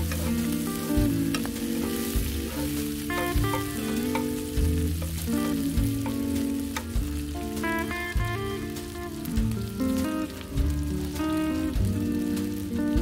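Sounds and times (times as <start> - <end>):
background music with steady beat: 0.0 - 13.0
meat sizzling in a pan: 0.0 - 13.0.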